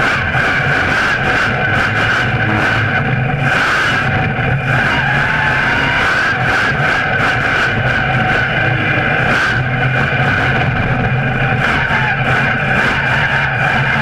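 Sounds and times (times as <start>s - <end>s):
truck engine running under load: 0.0s - 14.0s.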